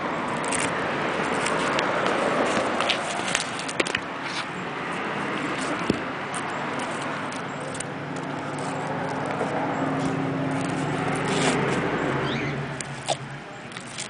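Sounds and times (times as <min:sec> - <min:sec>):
low engine-like hum: 0:00.0 - 0:14.0
tortoise biting corn: 0:00.0 - 0:14.0.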